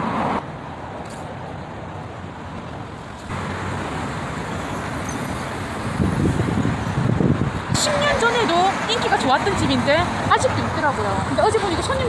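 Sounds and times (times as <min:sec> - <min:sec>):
road traffic passing cars: 0:00.0 - 0:12.0.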